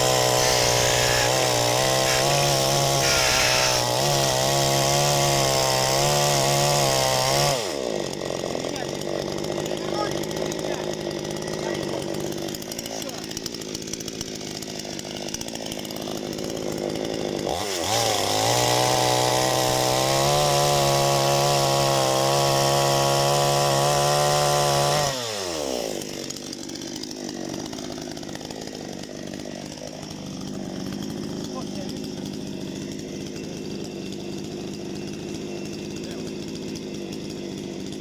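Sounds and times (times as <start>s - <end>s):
chainsaw idling and revving: 0.0s - 38.0s.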